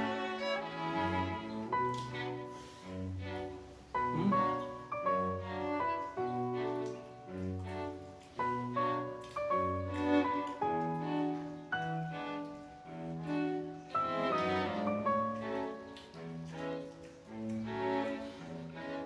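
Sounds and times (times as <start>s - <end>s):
instrumental music with held notes: 0.0s - 19.0s.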